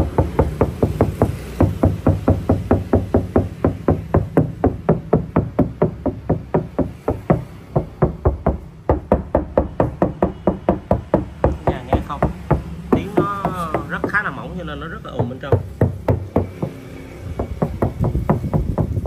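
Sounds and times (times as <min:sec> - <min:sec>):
knuckles knocking on car body: 0:00.0 - 0:19.0.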